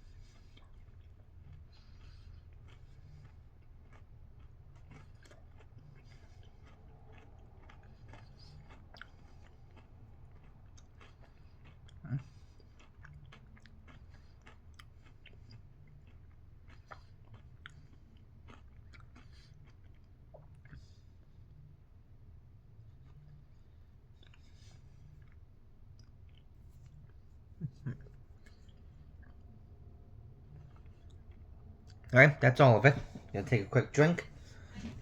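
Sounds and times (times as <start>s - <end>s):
chewing crunchy chocolate: 0.0s - 21.8s, 22.7s - 35.0s.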